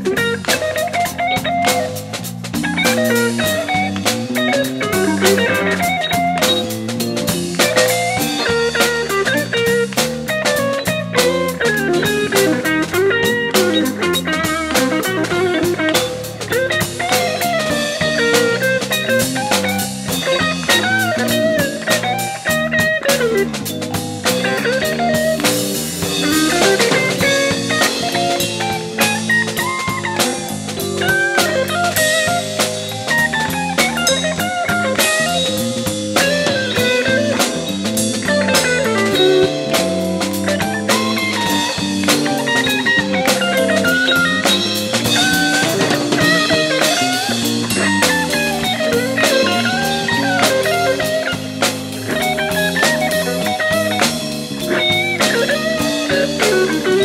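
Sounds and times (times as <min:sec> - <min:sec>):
busy drum beat: 0:00.0 - 0:57.0
jazz-funk band playing live: 0:00.0 - 0:57.0.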